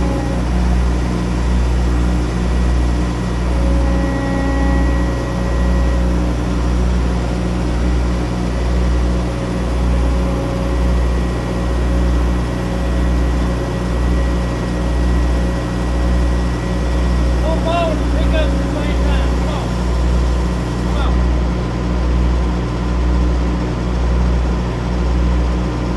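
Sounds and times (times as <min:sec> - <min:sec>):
diesel engine droning: 0:00.0 - 0:25.9.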